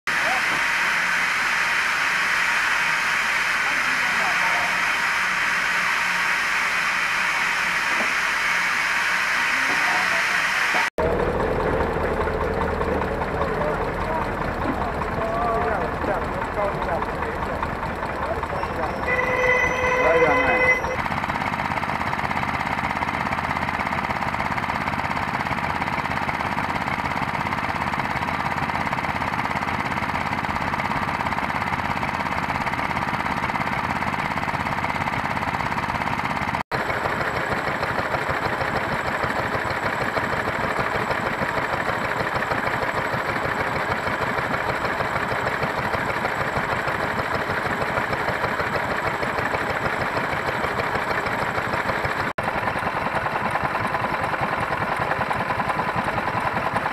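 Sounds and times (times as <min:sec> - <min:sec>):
stationary engines running: 0:00.1 - 0:56.9.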